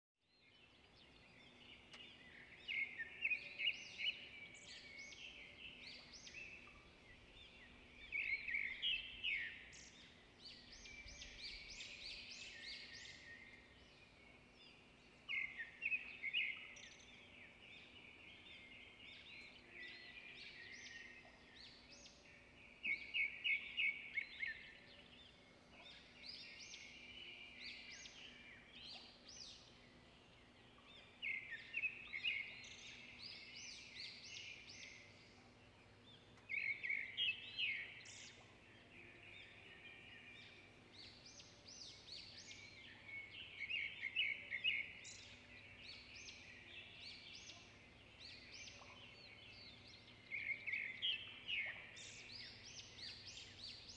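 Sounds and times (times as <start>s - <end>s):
birds chirping and trilling: 0.4s - 53.9s.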